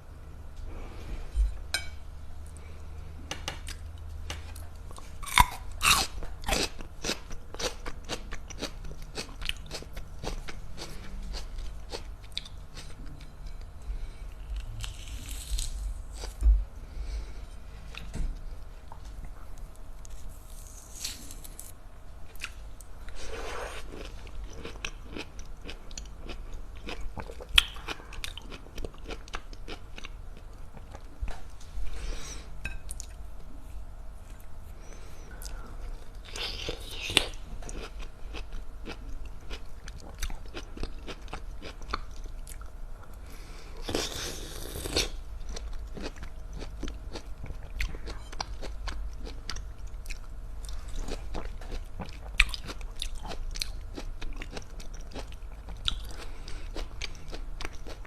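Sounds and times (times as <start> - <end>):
person chewing tangerines: 3.6 - 19.4, 22.3 - 31.4, 34.2 - 58.0.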